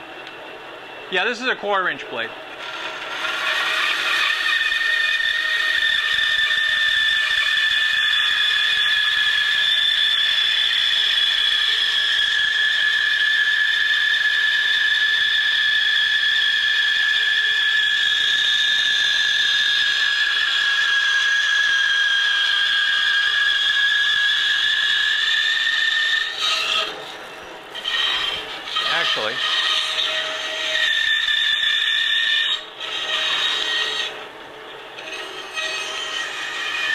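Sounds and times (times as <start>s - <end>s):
bandsaw cutting wood: 2.6s - 34.2s, 35.0s - 36.9s.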